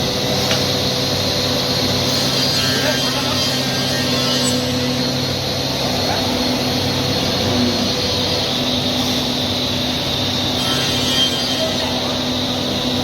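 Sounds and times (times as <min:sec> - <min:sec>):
cnc machine whirring: 0:00.0 - 0:13.0.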